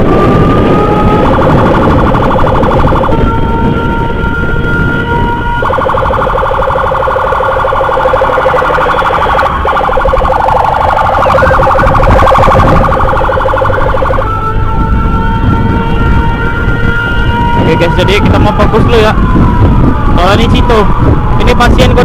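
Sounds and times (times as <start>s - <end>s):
electronic siren: 0.0s - 22.0s
engine and road rumble: 0.0s - 22.0s.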